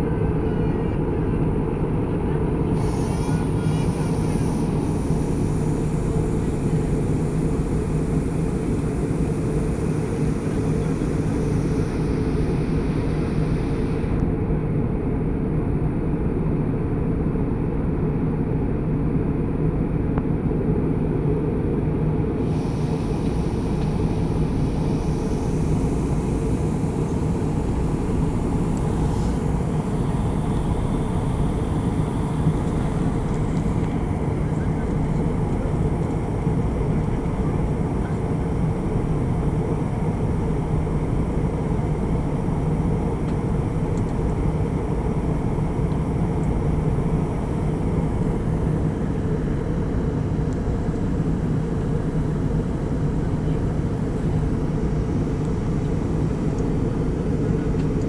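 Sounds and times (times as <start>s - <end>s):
airliner cabin noise: 0.0s - 14.2s, 21.9s - 58.0s.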